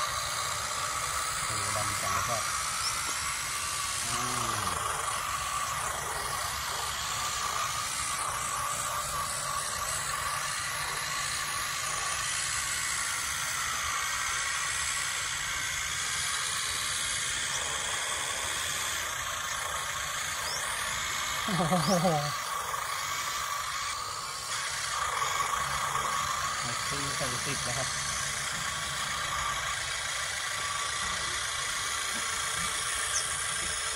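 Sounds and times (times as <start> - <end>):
simulated diesel engine sound: 0.0 - 33.9.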